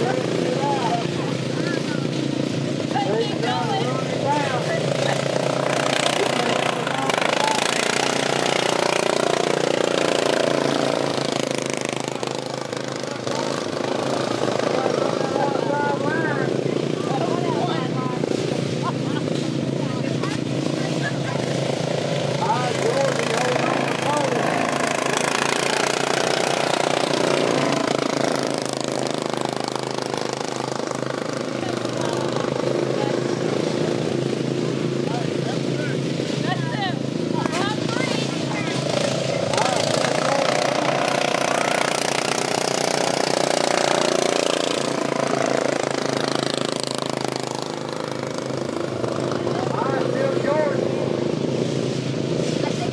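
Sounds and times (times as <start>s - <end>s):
lawn mower engines racing: 0.0s - 52.9s.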